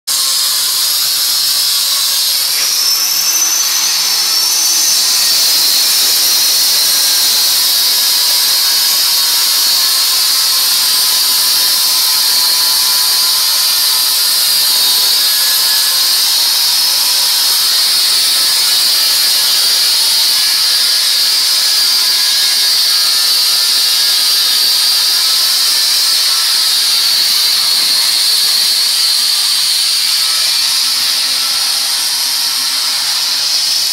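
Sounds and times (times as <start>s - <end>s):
power cutter cutting stone: 0.1s - 33.9s.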